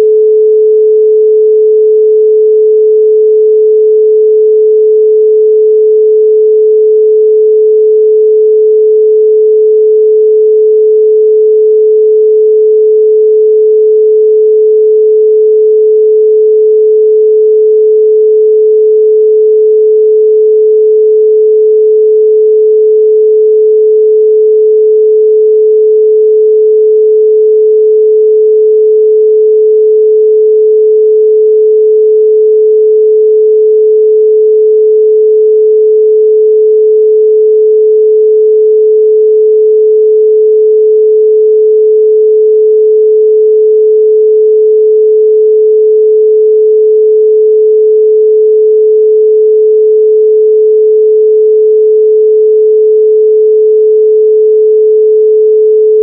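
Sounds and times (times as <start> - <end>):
pure sine tone: 0.0 - 56.0.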